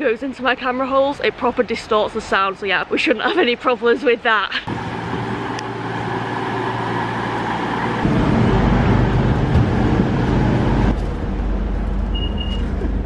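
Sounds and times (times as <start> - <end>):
diesel train engines rumbling: 0.0 - 13.0.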